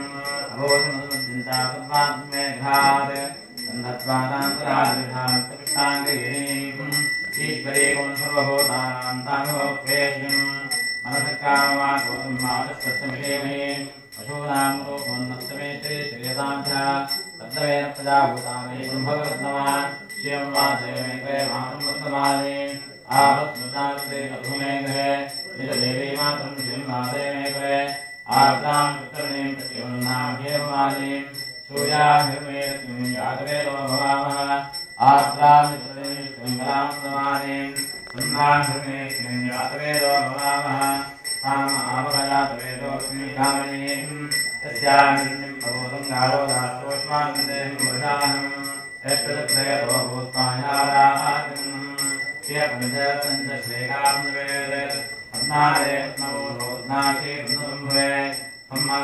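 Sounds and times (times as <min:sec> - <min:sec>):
hand bell ringing: 0:00.0 - 0:59.0
man chanting: 0:00.0 - 0:59.0.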